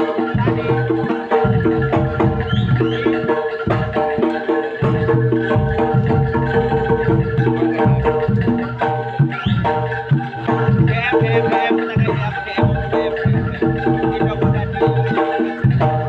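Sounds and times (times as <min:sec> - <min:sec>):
drum strokes: 0:00.0 - 0:16.0
struck metallophones: 0:00.0 - 0:16.0.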